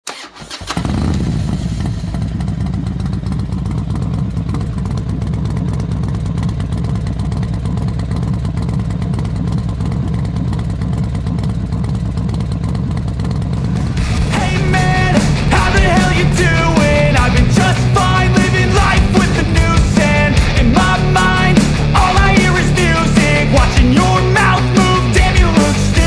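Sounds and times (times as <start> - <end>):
motorcycle engine rumbling: 0.1 - 26.0.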